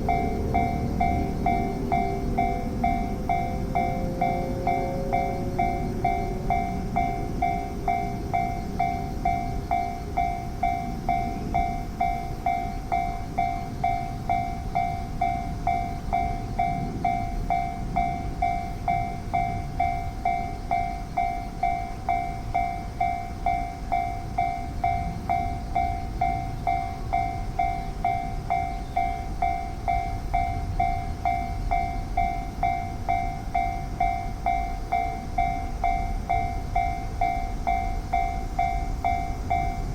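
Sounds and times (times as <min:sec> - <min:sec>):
level crossing bell ringing: 0:00.0 - 0:39.9
passing train rumble: 0:00.0 - 0:39.9.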